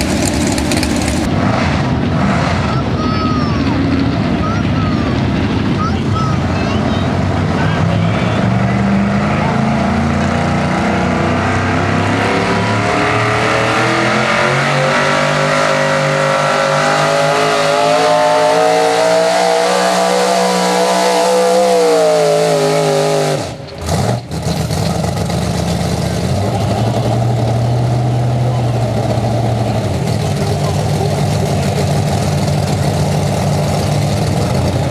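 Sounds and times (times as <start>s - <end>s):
truck engine running under load: 0.0s - 8.8s, 14.2s - 34.9s.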